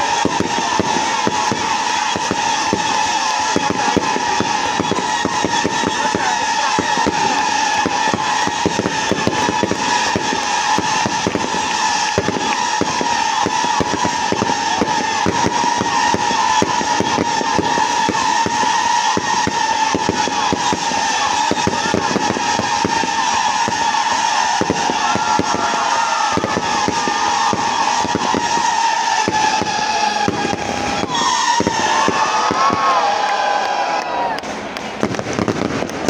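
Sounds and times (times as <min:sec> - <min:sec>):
firecrackers crackling: 0:00.0 - 0:36.0.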